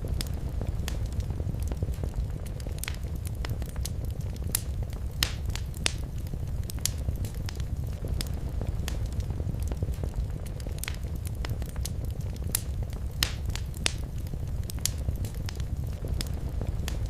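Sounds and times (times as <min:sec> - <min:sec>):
low rumble of flames: 0:00.0 - 0:17.0
sharp pops and snaps: 0:00.0 - 0:17.0
wood fire crackling: 0:00.0 - 0:17.0.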